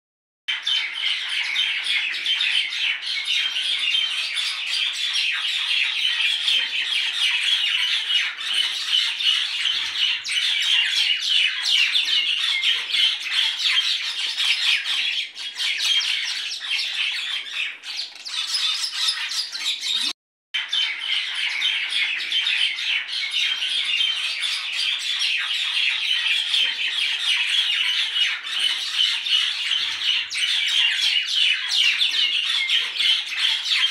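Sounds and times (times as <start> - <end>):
flock of birds chirping: 0.5 - 33.9.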